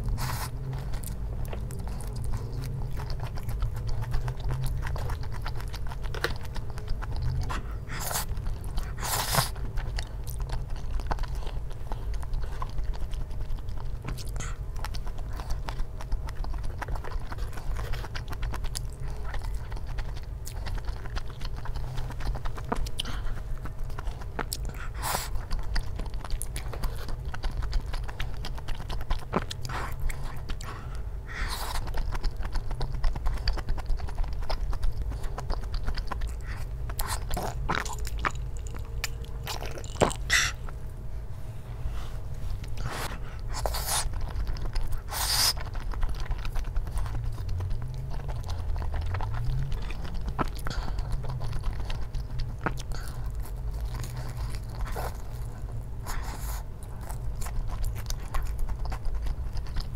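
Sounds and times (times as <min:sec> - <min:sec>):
chewing and biting: 0:00.0 - 0:40.9, 0:42.2 - 0:59.9.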